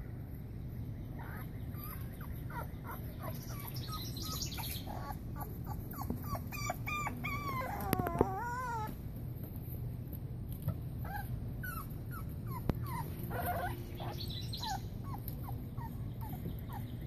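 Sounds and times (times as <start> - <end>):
puppies whimpering and yipping: 1.1 - 9.0, 10.6 - 17.0.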